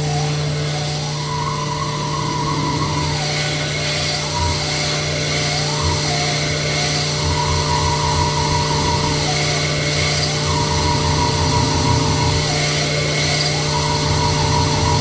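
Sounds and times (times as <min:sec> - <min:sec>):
honing machine whine: 0:00.0 - 0:15.0
steady machine hum: 0:00.0 - 0:15.0.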